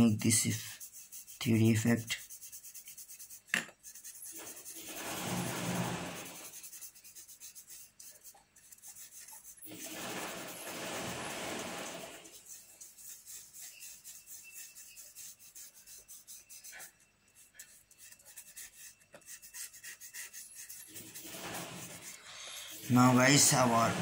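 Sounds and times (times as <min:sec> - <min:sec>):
pencil scratching on paper: 0:00.0 - 0:24.0.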